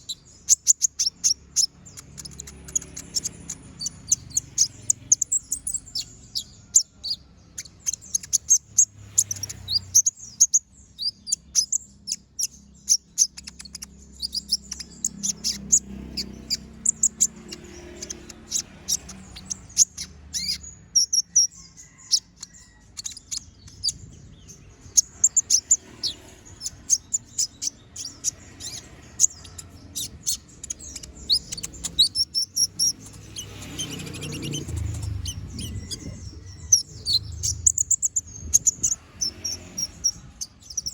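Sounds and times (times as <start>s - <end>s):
sunbird chirping and trilling: 0.0s - 40.9s.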